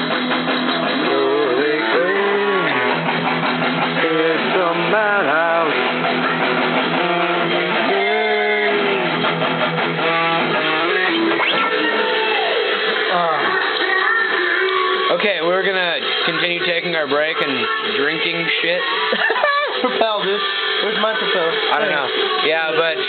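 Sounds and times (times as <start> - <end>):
guitar-driven rock music: 0.0 - 23.0
strummed electric guitar: 0.0 - 23.0.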